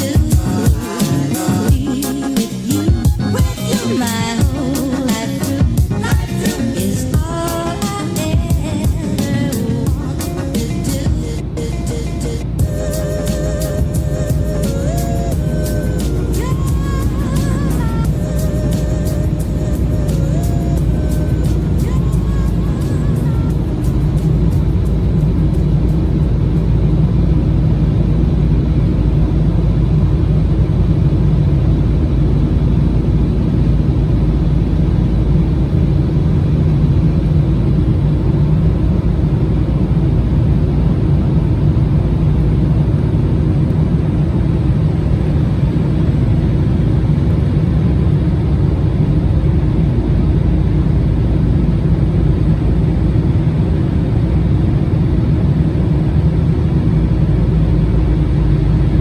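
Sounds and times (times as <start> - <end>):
jet engines rumbling in cabin: 0.0 - 59.0
rushing air: 0.0 - 59.0.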